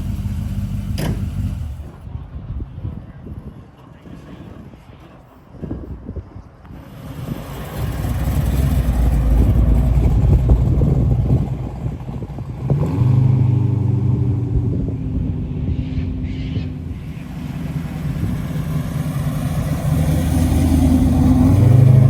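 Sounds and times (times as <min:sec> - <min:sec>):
car engine rumbling: 0:00.0 - 0:02.4, 0:06.7 - 0:22.0.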